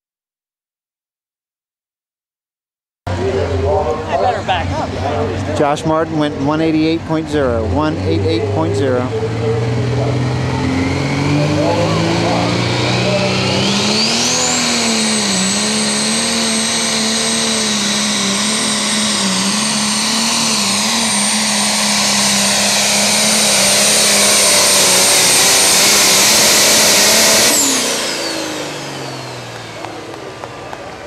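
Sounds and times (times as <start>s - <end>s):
high turbo whine: 3.1s - 31.0s
tractor diesel engine under load: 3.1s - 31.0s.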